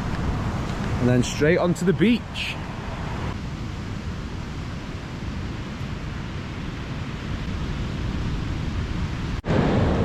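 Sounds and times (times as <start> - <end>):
sea rushing: 0.0 - 10.0
wind: 0.0 - 10.0.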